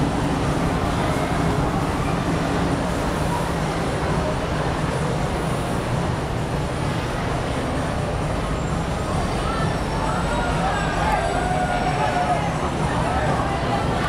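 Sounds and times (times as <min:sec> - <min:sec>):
ferry engine rumble: 0:00.0 - 0:14.0
harbour noise hiss: 0:00.0 - 0:14.0.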